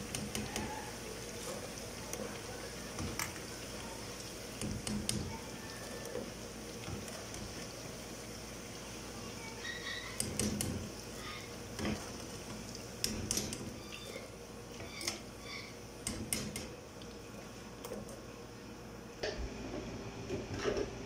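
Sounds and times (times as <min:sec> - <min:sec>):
eggplant sizzling in oil: 0:00.0 - 0:18.5.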